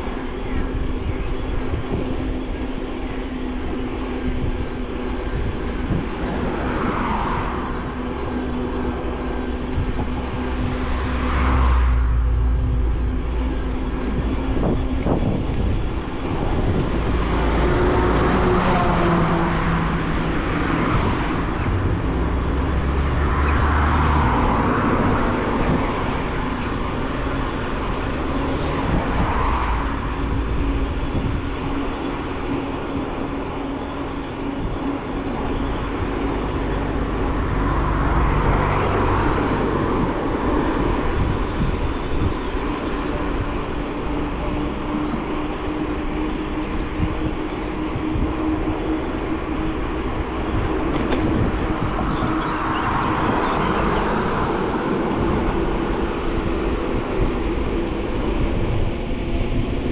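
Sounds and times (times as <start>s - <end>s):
wind rumbling on microphone: 0.0s - 59.9s.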